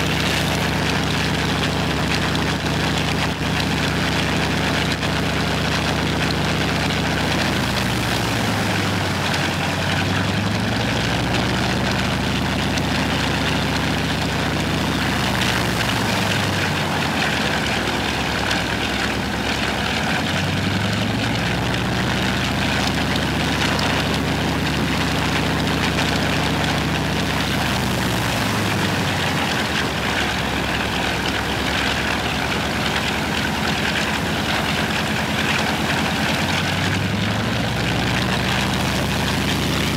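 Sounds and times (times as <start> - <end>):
radial piston engine droning: 0.0 - 39.9.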